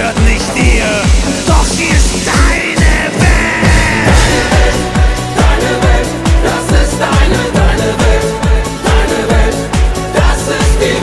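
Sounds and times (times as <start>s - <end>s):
heavy kick drum: 0.0s - 10.4s.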